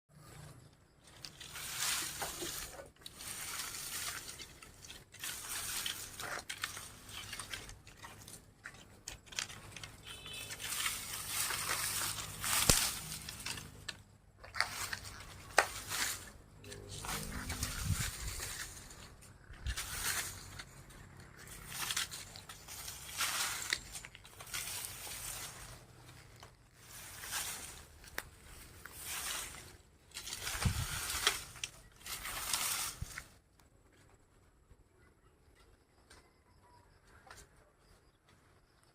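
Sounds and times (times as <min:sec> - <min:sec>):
broom scraping floor: 0:00.1 - 0:33.4.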